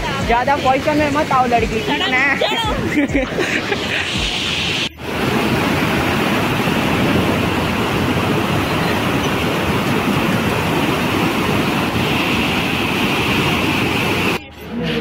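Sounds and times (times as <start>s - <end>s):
loud rushing river torrent: 0.0s - 15.0s.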